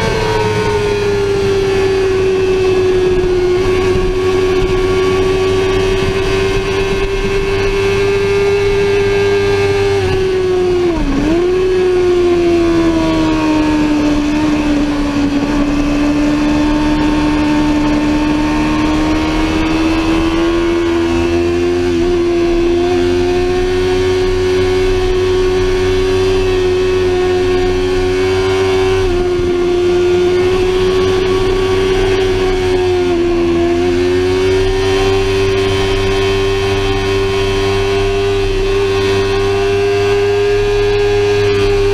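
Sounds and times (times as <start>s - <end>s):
motorcycle engine at high revs: 0.0s - 41.9s.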